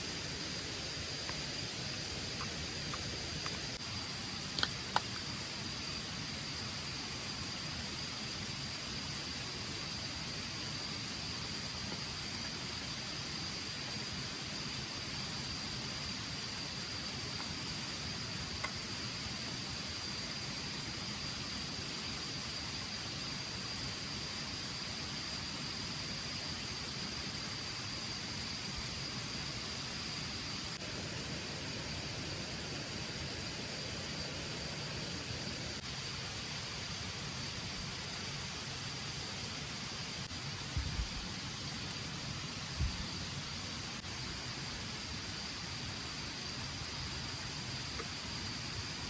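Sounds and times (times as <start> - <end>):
crickets trilling: 0.0 - 49.0
outdoor hiss: 0.0 - 49.0.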